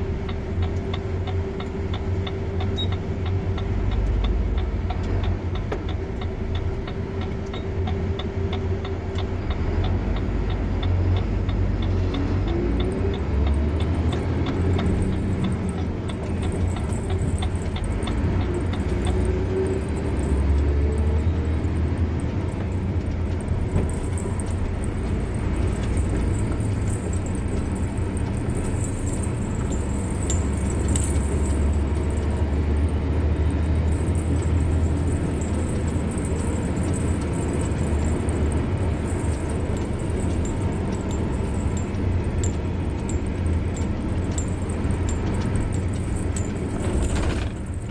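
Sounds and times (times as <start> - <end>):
car engine and tyre rumble: 0.0 - 47.9
light rapid ticking: 0.0 - 47.9.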